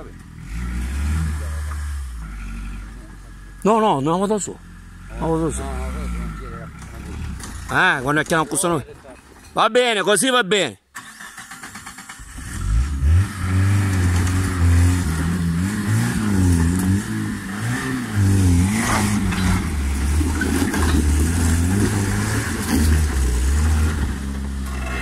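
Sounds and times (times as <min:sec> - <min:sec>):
car engine revving under load: 0:00.0 - 0:03.7, 0:04.6 - 0:08.0, 0:11.6 - 0:25.0.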